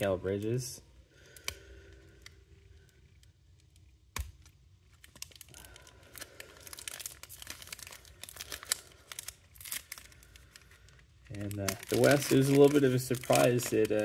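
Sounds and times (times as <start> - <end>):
foil pack crinkling and tearing: 1.2 - 14.0
sharp crack of foil: 1.3 - 14.0.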